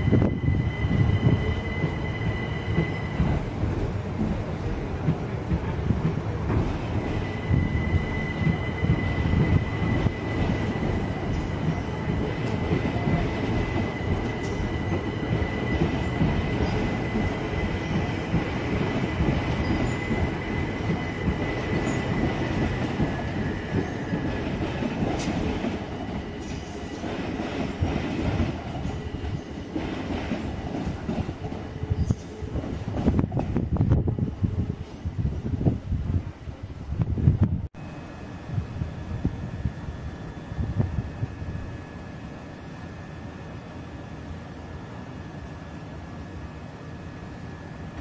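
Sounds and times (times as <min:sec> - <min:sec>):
train wheels rumbling on track: 0:00.0 - 0:48.0.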